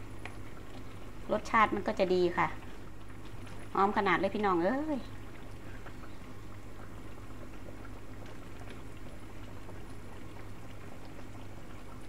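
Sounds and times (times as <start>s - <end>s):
curry bubbling with pops and gurgles: 0.0s - 12.0s
low steady hum: 0.0s - 12.0s.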